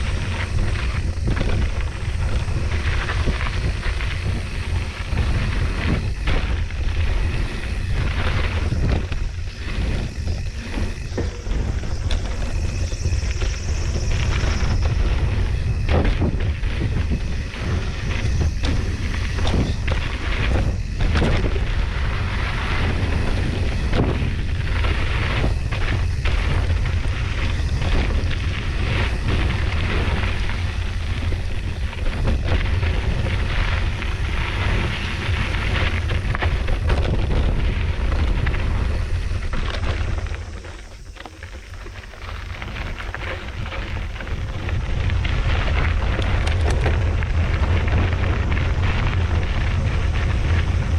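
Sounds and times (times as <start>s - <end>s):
bike knocking and rattling: 0.0s - 50.9s
bike tyres on dirt: 0.0s - 50.9s
wind rumble on microphone: 0.0s - 50.9s.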